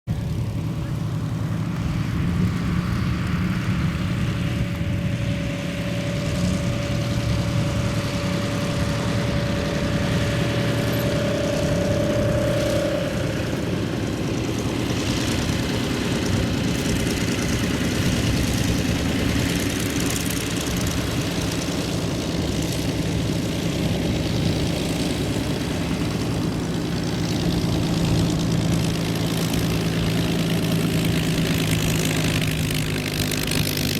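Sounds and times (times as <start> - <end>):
propeller aircraft drone: 0.1 - 33.9
thin whine: 1.6 - 33.7.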